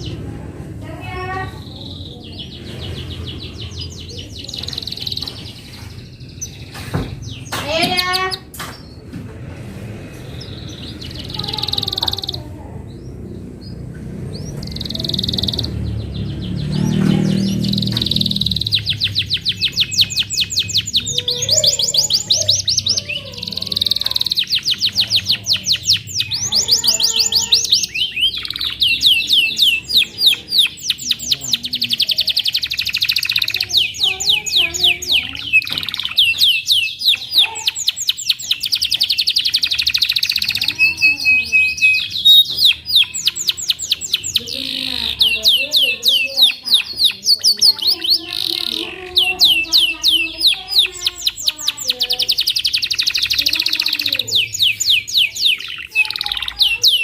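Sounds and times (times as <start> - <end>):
canary singing trills: 0.0 - 9.1, 9.8 - 57.0.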